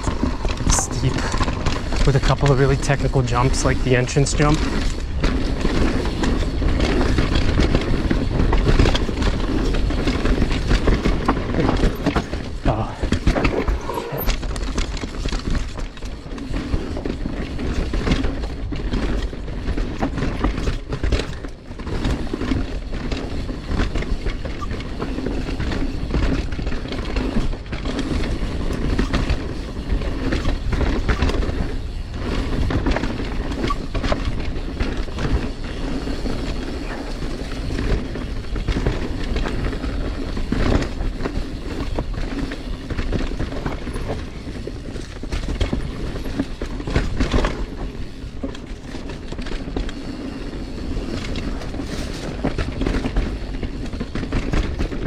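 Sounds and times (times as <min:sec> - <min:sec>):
bike rattling over bumps: 0:00.0 - 0:55.0
bike tyres rolling on dirt: 0:00.0 - 0:55.0.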